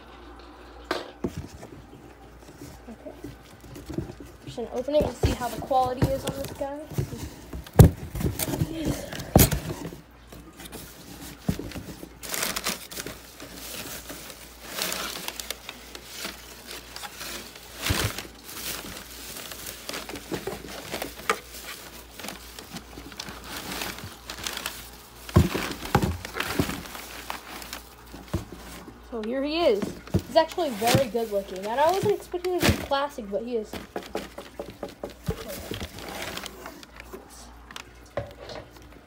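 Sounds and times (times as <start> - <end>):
bubble wrap crinkling: 1.5 - 38.0.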